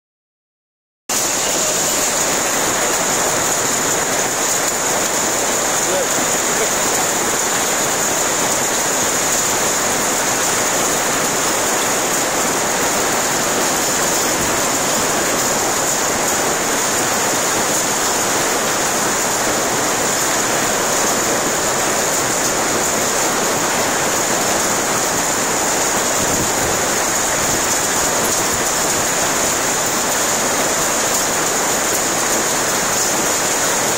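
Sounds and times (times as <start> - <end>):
heavy hail and rain falling: 1.1 - 33.9.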